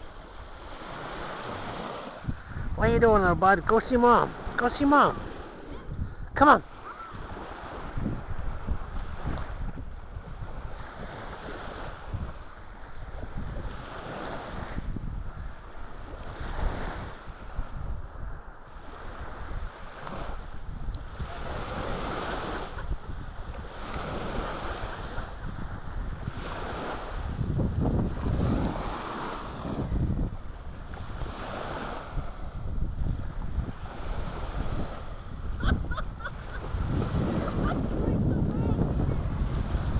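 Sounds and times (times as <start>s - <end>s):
surf washing on beach: 0.0s - 39.9s
wind buffeting microphone: 0.0s - 39.9s.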